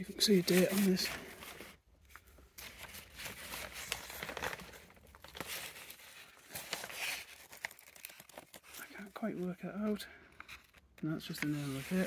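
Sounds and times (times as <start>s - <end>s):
rustling and crinkling: 0.1s - 12.0s.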